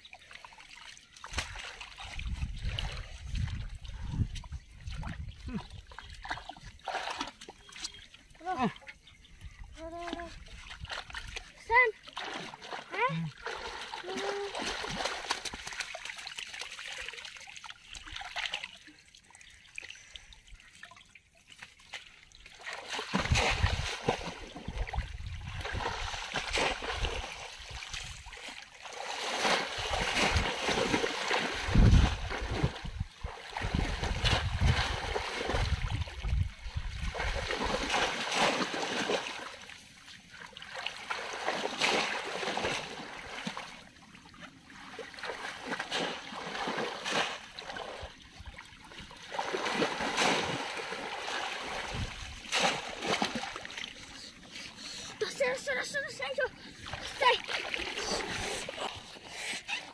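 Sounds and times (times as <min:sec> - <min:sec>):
shallow water splashing: 0:00.0 - 0:09.2, 0:09.8 - 0:59.9.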